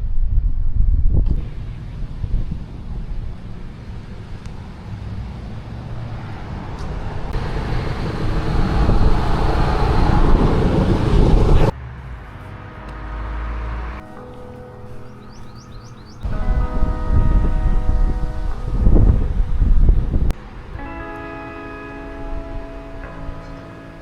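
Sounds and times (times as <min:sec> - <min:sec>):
low traffic hum: 0:00.0 - 0:24.0
vehicle passing: 0:01.4 - 0:24.0.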